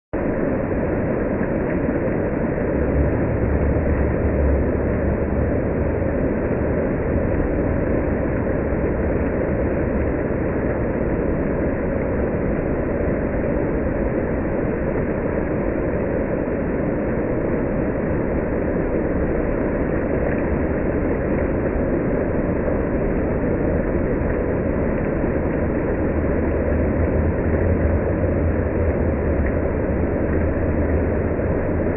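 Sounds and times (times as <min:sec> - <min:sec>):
water fountain splashing: 0:00.2 - 0:31.9.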